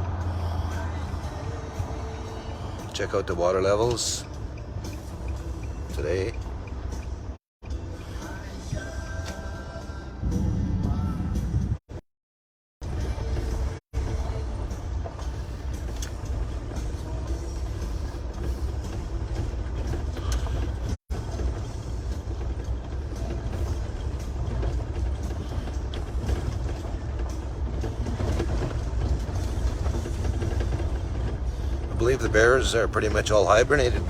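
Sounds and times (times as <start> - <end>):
engine and road noise in cabin: 0.0 - 12.0, 12.8 - 34.0.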